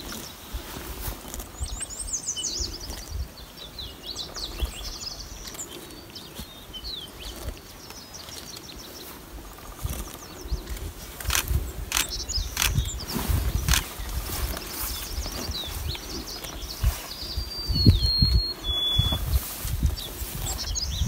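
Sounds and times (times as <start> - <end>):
low rumble on microphone: 0.0 - 21.0
songbirds chirping and trilling: 0.0 - 21.0.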